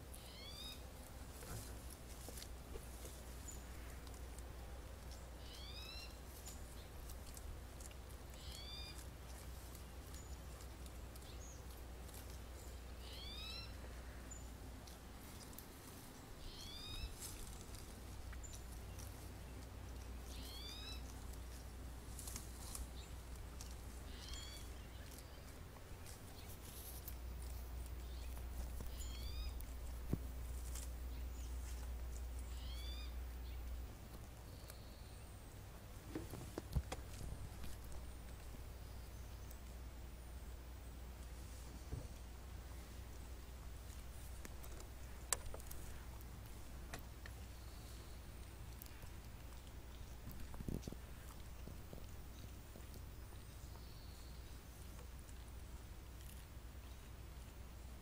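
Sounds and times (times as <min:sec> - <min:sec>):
faint low rumble: 0:00.0 - 0:58.0.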